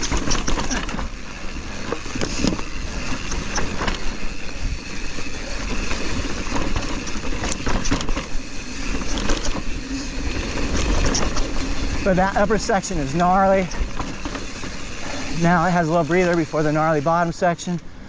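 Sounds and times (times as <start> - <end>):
bike knocks and rattles: 0.0 - 16.8
bike tyres rumbling over rock: 0.0 - 17.0.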